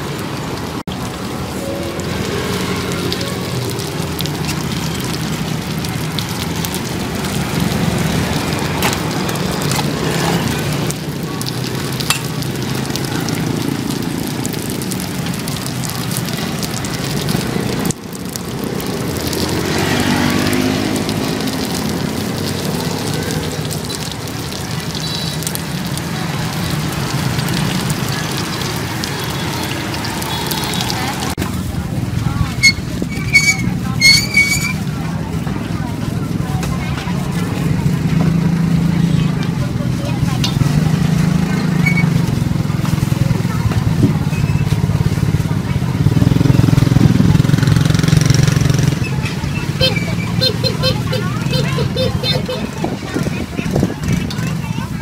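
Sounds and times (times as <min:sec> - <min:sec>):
cakes sizzling in oil: 0:00.0 - 0:55.0.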